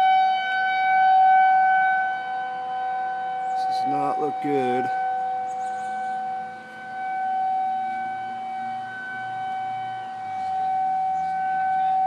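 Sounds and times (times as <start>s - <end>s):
warning siren wailing: 0.0s - 12.0s.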